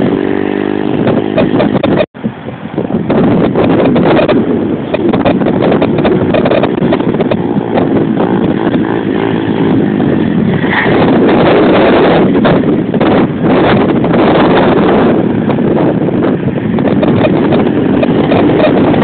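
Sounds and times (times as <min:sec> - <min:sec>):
motorbike engine revving: 0:00.0 - 0:02.1, 0:03.4 - 0:19.0
wind buffeting microphone: 0:00.0 - 0:19.0.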